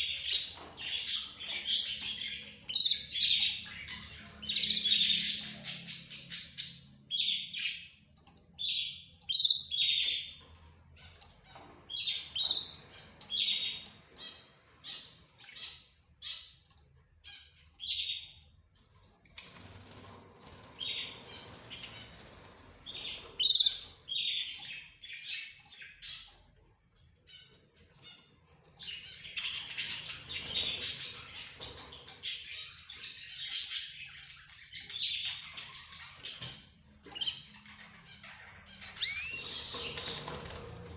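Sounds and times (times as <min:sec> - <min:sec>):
cage birds chirping and calling: 0:00.0 - 0:40.9.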